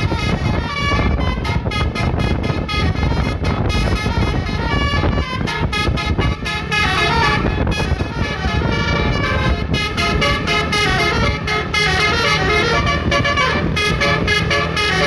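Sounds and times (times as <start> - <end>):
low engine rumble: 0.0 - 15.0
musical bus horn tune: 0.0 - 15.0.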